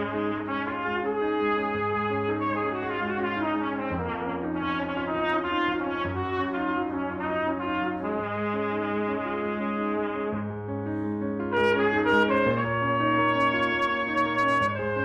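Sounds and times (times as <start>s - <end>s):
brass instruments playing: 0.0s - 10.4s, 11.5s - 15.0s.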